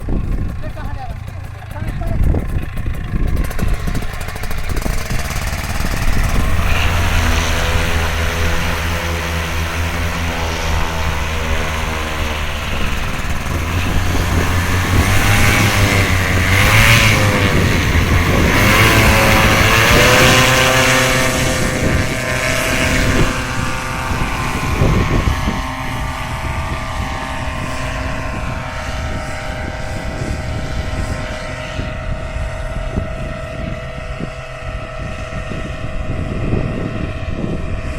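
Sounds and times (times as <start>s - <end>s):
paramotor engine and propeller: 0.0s - 37.9s.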